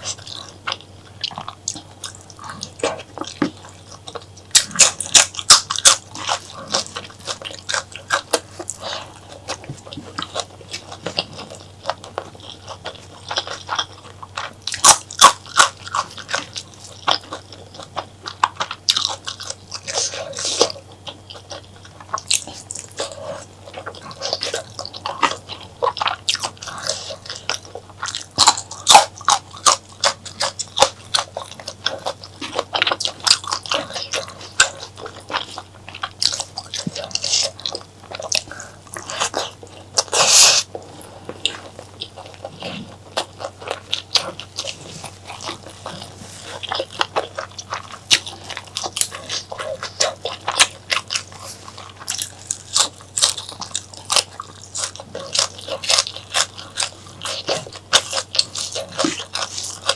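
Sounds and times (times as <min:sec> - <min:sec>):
wet chewing and smacking: 0:00.0 - 0:59.9.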